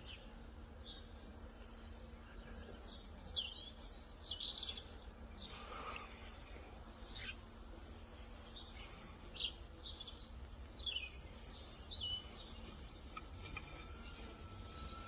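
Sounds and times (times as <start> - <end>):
birds chirping: 0.0 - 15.0
low outdoor rumble: 0.3 - 15.0.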